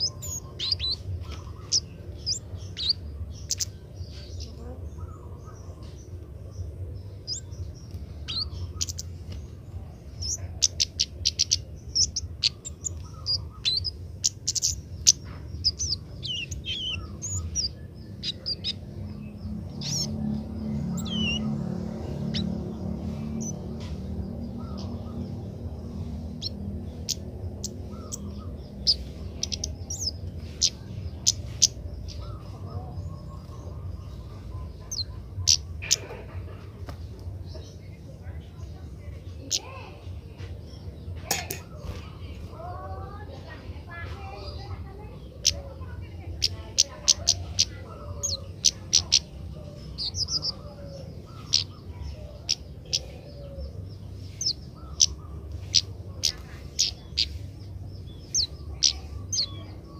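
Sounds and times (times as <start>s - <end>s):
young bird chirping: 0.0s - 59.9s.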